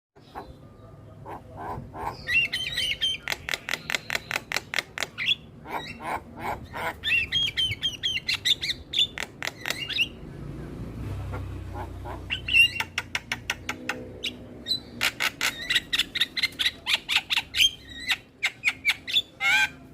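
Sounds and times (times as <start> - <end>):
myna bird song: 0.2 - 19.9.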